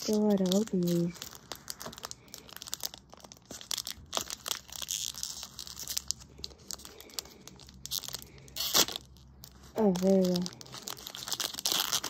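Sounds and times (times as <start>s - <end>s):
foil pack ripping open: 0.0s - 12.0s
foil wrapper crinkling: 0.0s - 12.0s.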